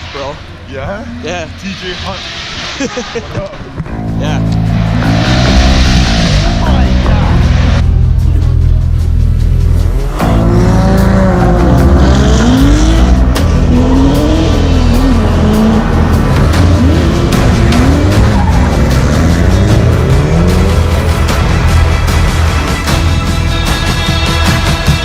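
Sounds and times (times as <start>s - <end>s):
background music: 0.0s - 25.0s
car engines revving: 3.7s - 24.0s.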